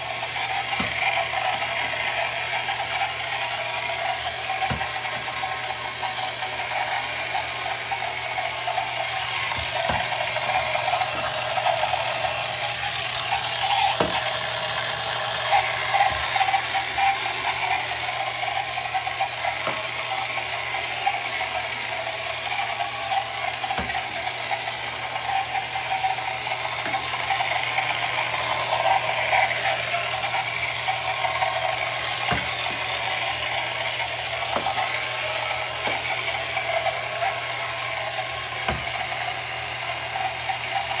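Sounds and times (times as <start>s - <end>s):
toy electric motor running: 0.0s - 41.0s.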